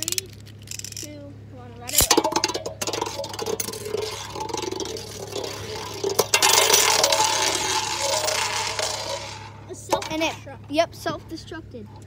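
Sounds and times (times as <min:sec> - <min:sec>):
spinning tops scraping on metal: 0:00.0 - 0:01.1, 0:01.9 - 0:10.4.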